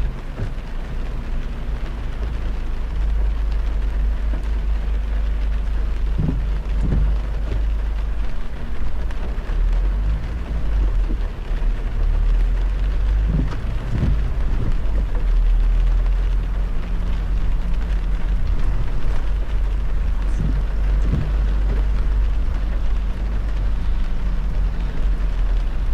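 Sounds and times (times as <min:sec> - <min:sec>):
heavy rain hitting a car: 0:00.0 - 0:25.9
low road rumble: 0:00.0 - 0:25.9.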